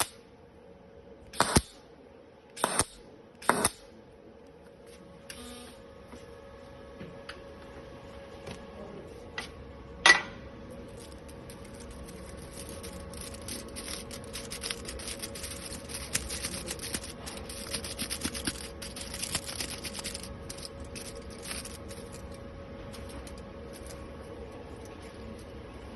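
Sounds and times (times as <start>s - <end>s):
welding arc humming and crackling: 0.0s - 4.5s, 5.2s - 5.9s, 9.5s - 25.9s.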